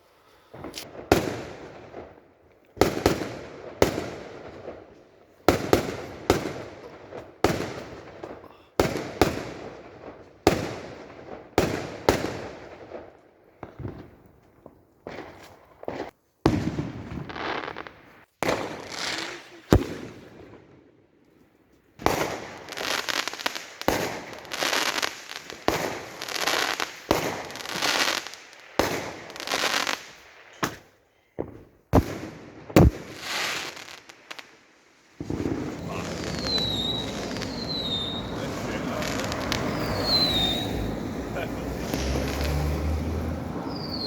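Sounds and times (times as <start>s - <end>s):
fireworks bangs and crackling: 0.4s - 21.0s, 21.9s - 44.0s.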